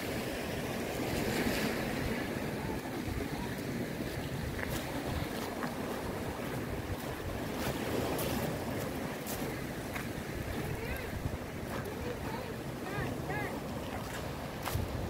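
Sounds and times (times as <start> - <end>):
sea surf rushing: 0.0 - 15.0
wind buffeting the microphone: 0.0 - 15.0.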